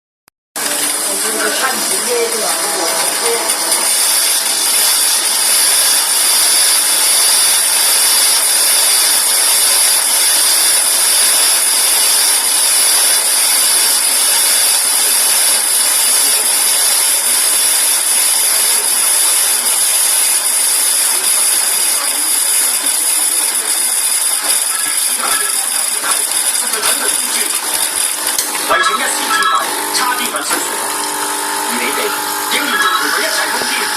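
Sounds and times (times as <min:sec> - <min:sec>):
espresso machine steam wand hissing: 0:00.6 - 0:33.9.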